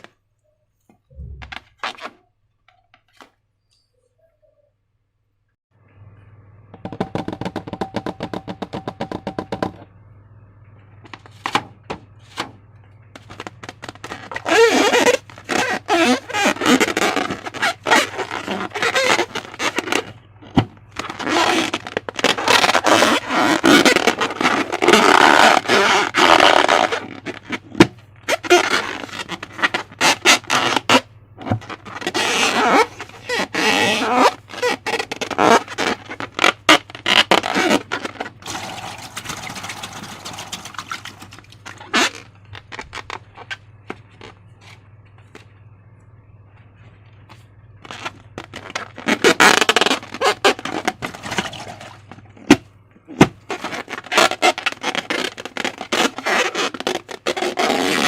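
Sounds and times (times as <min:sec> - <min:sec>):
low steady hum: 0:00.0 - 0:56.2.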